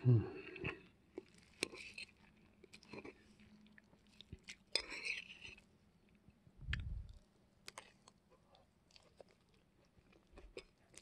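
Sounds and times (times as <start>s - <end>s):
faint chewing: 0.3s - 11.0s.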